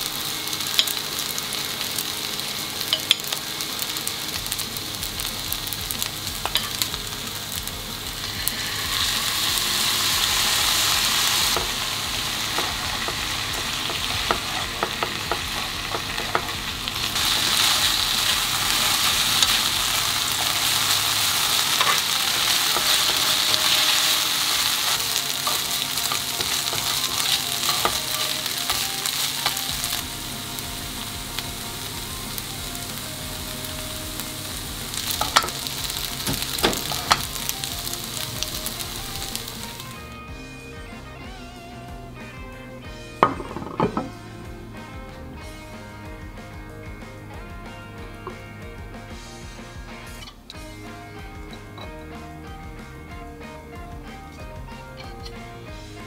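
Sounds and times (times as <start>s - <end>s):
food sizzling in a frying pan: 0.0s - 42.4s, 43.2s - 52.2s.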